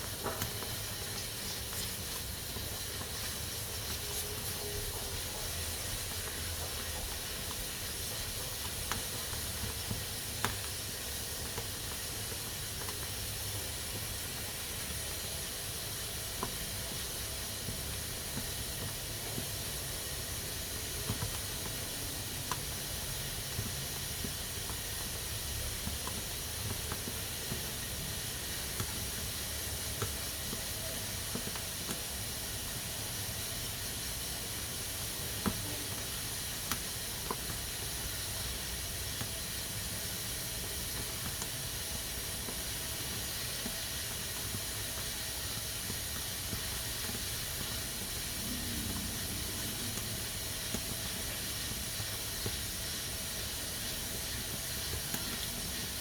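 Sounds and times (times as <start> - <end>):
pressure cooker steam hissing: 0.0 - 56.0.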